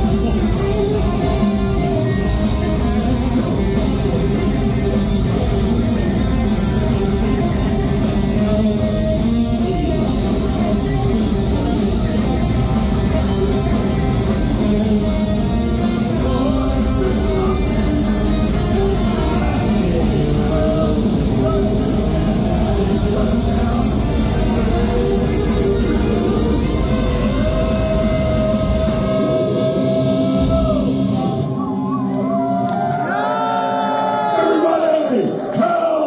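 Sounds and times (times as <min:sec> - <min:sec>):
heavy metal band playing: 0:00.0 - 0:36.0.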